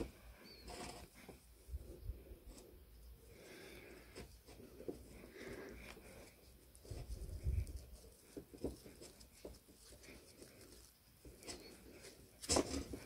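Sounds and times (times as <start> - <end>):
rope rubbing and rustling: 0.0 - 13.0.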